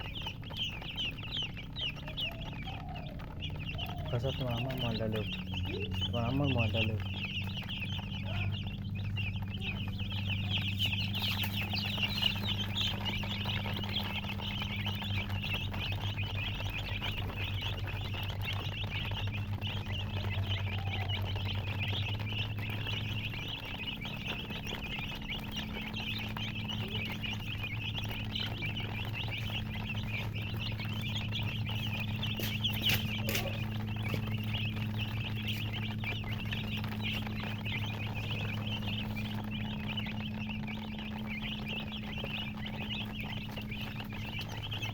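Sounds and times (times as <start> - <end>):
baby chicks peeping: 0.0 - 44.9
low hum: 0.0 - 44.9.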